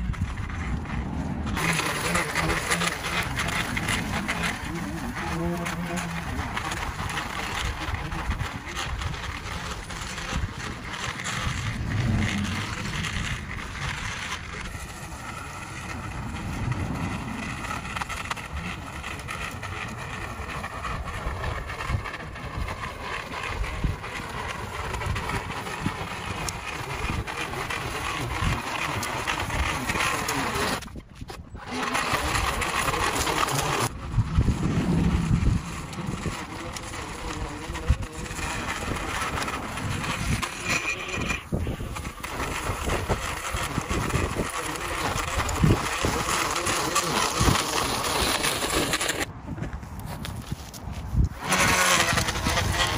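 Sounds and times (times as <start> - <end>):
string trimmer engine whine: 0.0 - 52.9.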